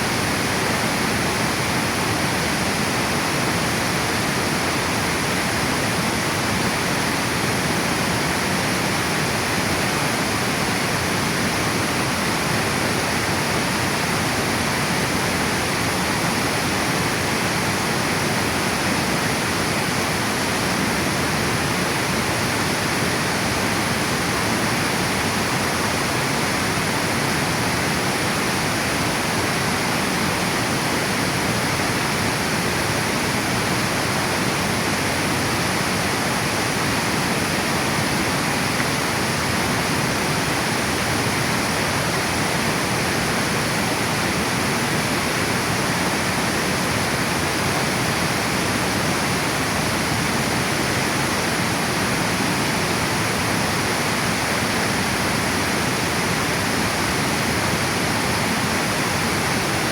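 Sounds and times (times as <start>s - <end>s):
water pouring over dam spillway: 0.0s - 59.9s.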